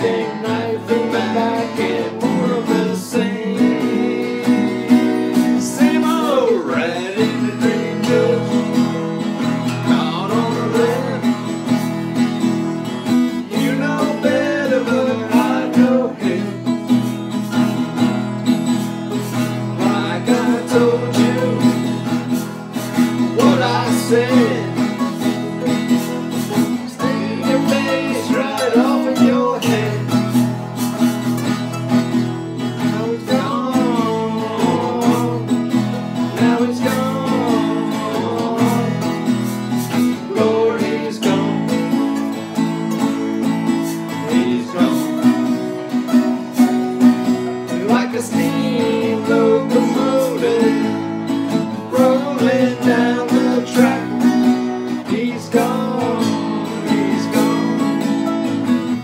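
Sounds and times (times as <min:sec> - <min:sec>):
acoustic guitars strumming: 0:00.0 - 0:59.0
harmonica lead with bent notes: 0:00.0 - 0:59.0.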